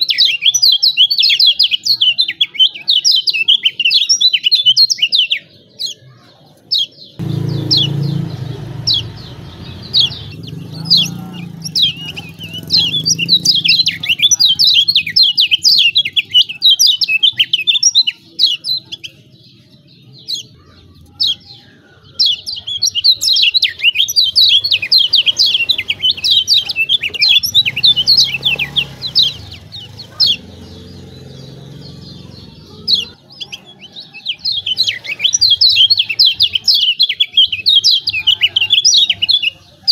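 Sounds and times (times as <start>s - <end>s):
bird chattering calls: 6.8s - 39.9s.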